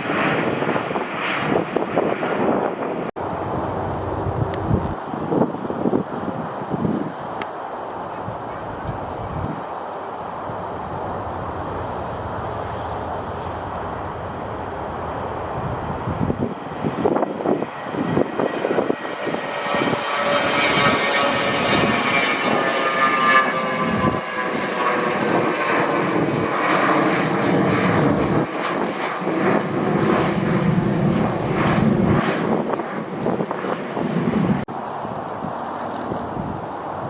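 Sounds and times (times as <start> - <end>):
airliner engines whining: 0.0 - 37.0
wind rumbling on microphone: 0.0 - 37.0.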